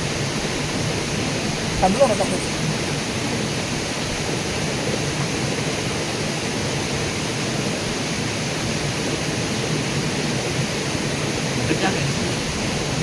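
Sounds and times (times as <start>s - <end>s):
river water rushing: 0.3s - 13.0s.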